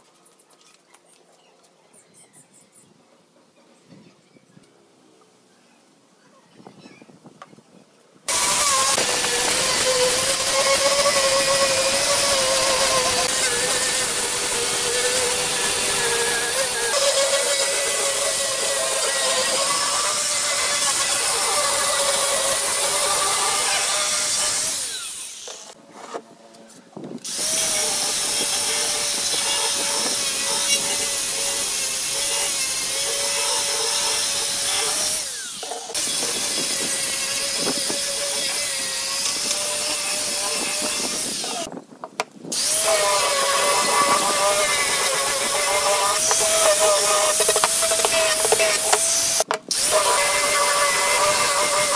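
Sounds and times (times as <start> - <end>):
angle grinder sanding wood: 8.3 - 26.2, 27.3 - 41.7, 42.6 - 51.9.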